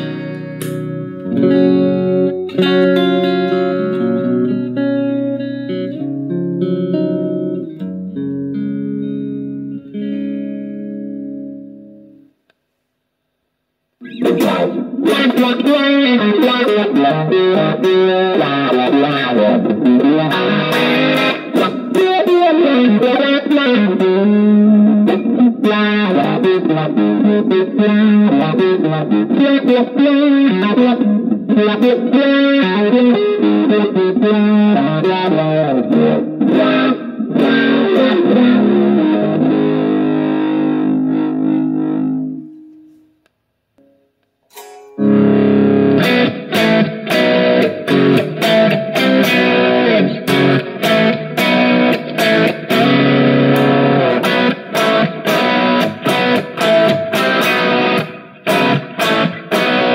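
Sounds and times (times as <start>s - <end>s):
electric guitar melodic notes: 0.0s - 12.4s, 14.0s - 43.2s, 43.8s - 59.9s
choppy electric guitar chords: 0.0s - 12.5s, 14.0s - 43.2s, 43.8s - 59.9s.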